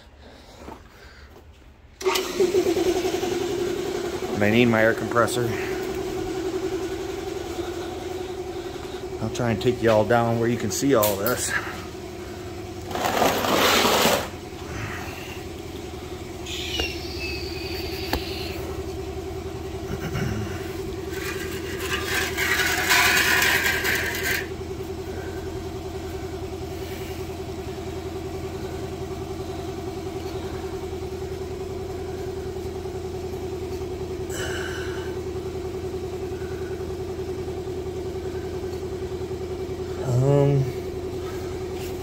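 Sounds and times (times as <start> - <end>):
air compressor humming: 0.1 - 42.0.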